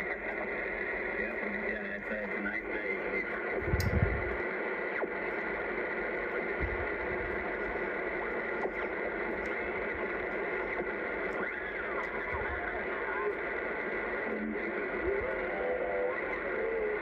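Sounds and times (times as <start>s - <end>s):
radio band noise hiss: 0.0s - 17.0s.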